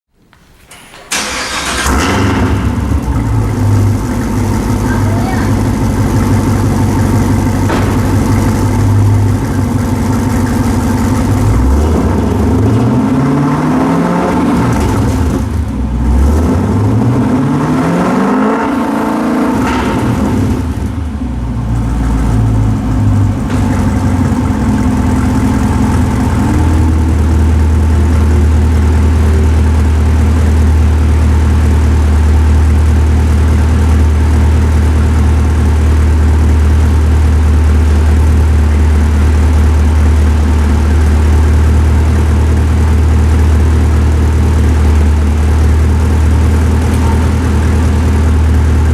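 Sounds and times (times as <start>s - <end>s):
car engine idling and revving: 1.3s - 48.9s.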